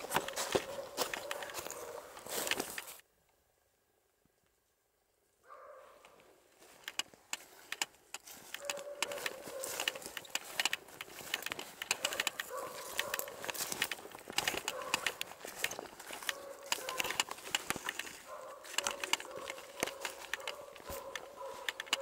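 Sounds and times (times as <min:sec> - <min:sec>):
rustling leaves and snapping twigs: 0:00.0 - 0:03.0, 0:06.0 - 0:22.0.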